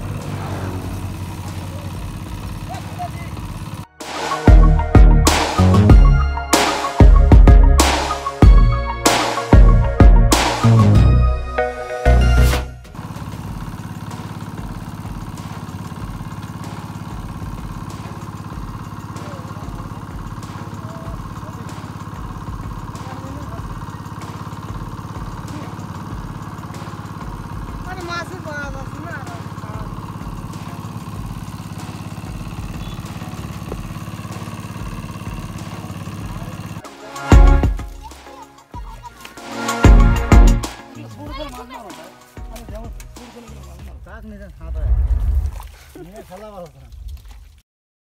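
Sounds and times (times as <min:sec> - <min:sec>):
small engine running: 0:00.0 - 0:09.7, 0:12.8 - 0:44.1.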